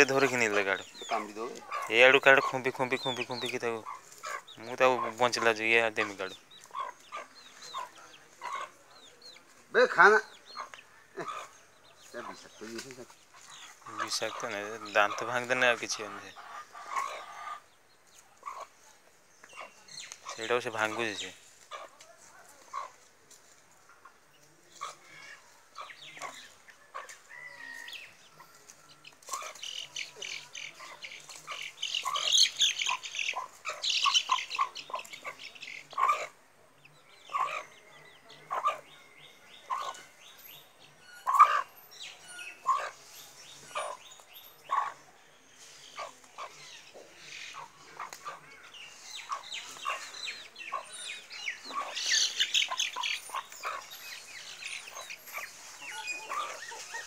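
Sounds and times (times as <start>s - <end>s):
birds chirping in trills: 0.0s - 22.0s, 23.8s - 57.0s
chickens clucking: 0.0s - 57.0s.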